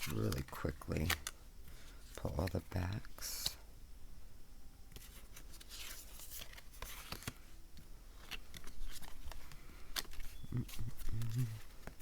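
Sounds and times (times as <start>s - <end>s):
cards sliding and rubbing: 0.0s - 2.6s, 4.9s - 12.0s.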